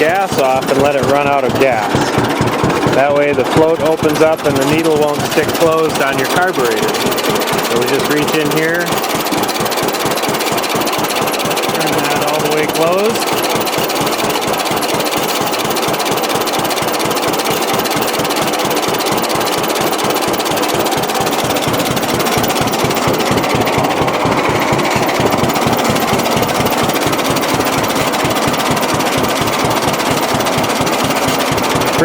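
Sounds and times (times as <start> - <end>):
tractor engine idling: 0.0 - 32.0.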